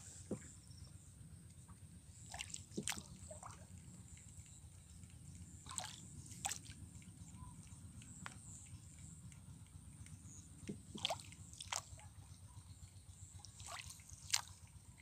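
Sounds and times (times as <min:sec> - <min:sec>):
faint water drips and sloshes: 0:00.0 - 0:15.0
low steady rumble: 0:00.0 - 0:15.0.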